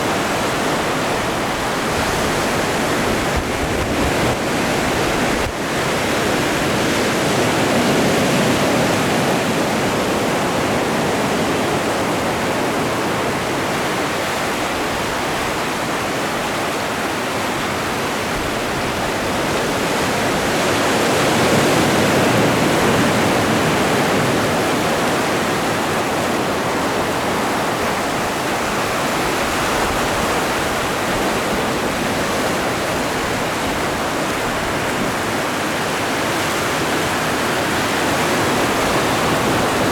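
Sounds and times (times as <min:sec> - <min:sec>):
ocean surf waves breaking: 0:00.0 - 0:39.9.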